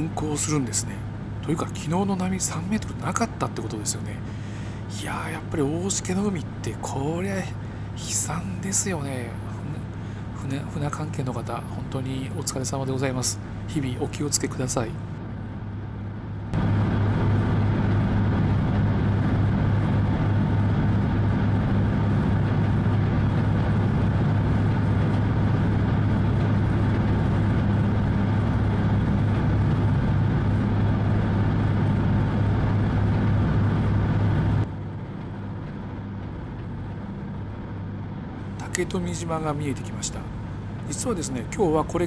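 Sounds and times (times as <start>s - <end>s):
boat engines droning: 0.0s - 42.0s.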